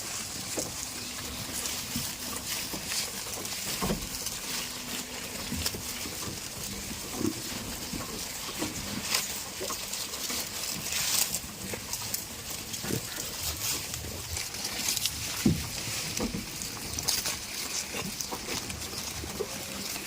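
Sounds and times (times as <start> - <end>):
goats grunting: 0.0 - 20.0
knocks and rustling: 0.3 - 20.0.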